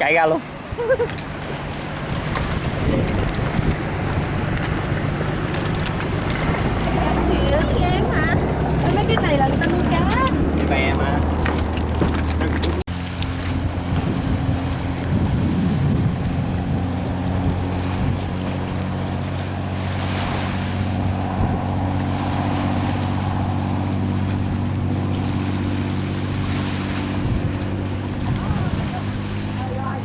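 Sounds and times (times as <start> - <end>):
jet ski engine droning: 0.0 - 30.0
rushing water: 0.0 - 30.0
wind noise on microphone: 0.6 - 29.8.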